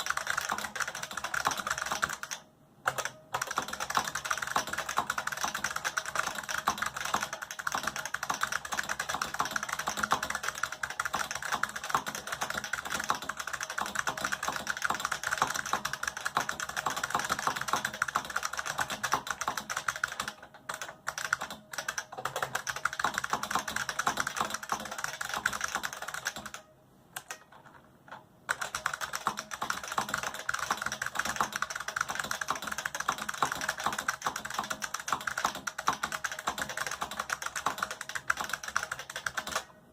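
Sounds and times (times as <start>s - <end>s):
mechanical keyboard typing: 0.0s - 39.7s.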